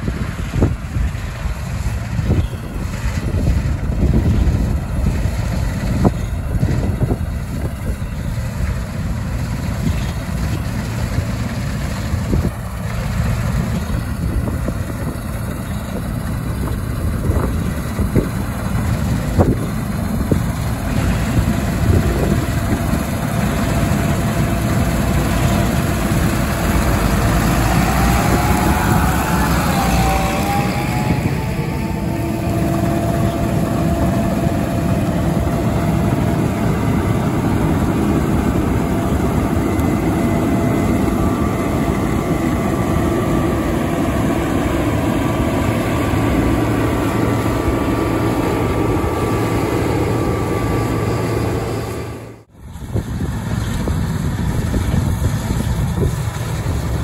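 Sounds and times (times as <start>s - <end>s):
wavering whine: 0.0s - 52.9s
combine harvester diesel engine: 0.0s - 57.0s
tractor diesel engine: 0.0s - 57.0s.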